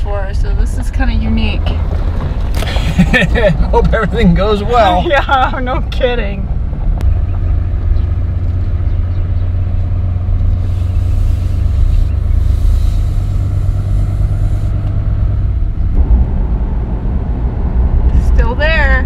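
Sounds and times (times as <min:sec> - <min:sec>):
engine rumble inside truck cab: 0:00.0 - 0:19.0
road noise: 0:00.0 - 0:19.0.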